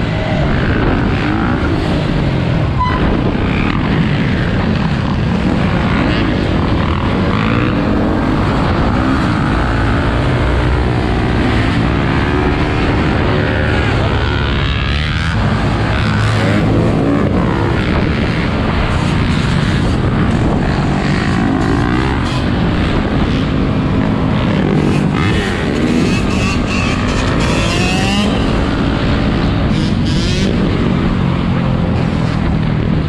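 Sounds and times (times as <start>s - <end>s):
motorcycle engines revving: 0.0s - 33.0s
wind rumble on microphone: 0.0s - 33.0s.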